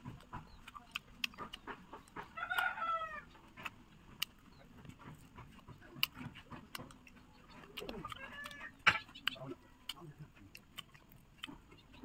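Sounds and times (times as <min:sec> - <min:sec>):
eating clicks and smacks: 0:00.0 - 0:12.0.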